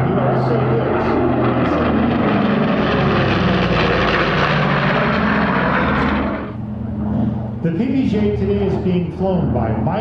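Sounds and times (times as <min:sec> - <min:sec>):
propeller plane engines roaring: 0:00.0 - 0:10.0.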